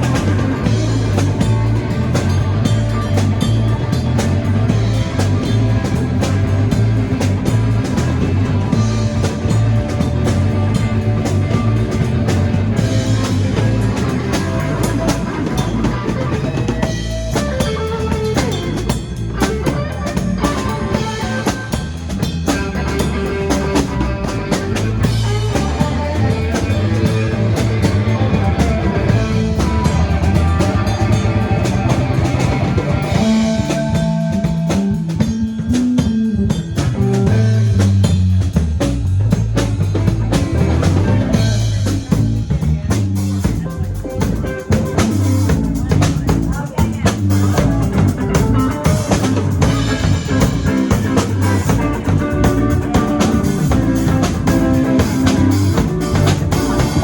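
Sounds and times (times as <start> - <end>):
bass guitar: 0.0 - 57.0
drum kit: 0.0 - 57.0
electric guitar: 0.0 - 57.0
lead guitar lines: 0.0 - 57.0.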